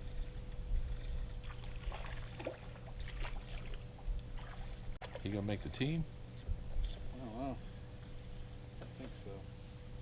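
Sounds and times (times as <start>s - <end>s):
faint steady whine: 0.0s - 10.0s.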